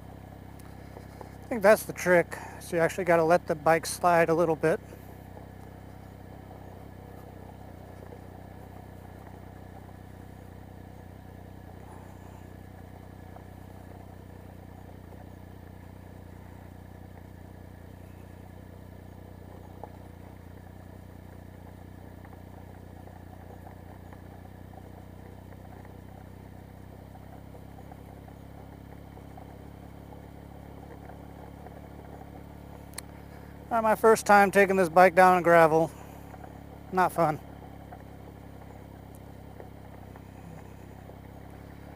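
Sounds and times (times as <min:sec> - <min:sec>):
motorcycle engine at low revs: 0:00.0 - 0:41.9
tyres on gravel: 0:00.0 - 0:41.9.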